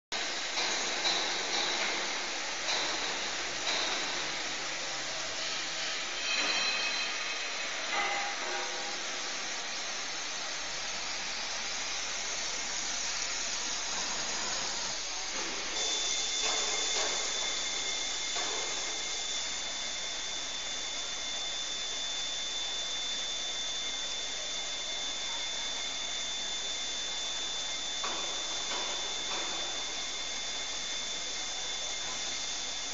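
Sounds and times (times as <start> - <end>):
machining and coolant hiss: 0.2 - 32.9
thin high whine: 0.2 - 32.9.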